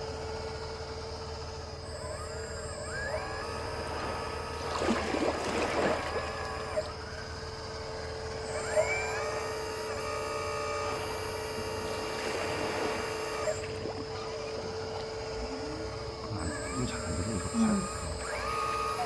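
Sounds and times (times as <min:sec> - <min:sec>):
excavator pump and motors whining: 0:00.0 - 0:19.0
steady hum: 0:00.0 - 0:19.0.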